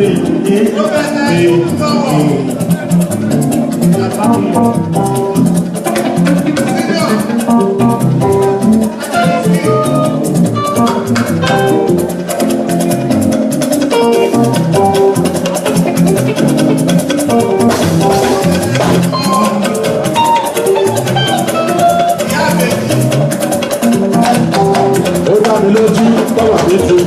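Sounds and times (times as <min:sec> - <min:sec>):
bass line: 0:00.0 - 0:27.0
fast shaker rhythm: 0:00.0 - 0:27.0
instrumental band music: 0:00.0 - 0:27.0.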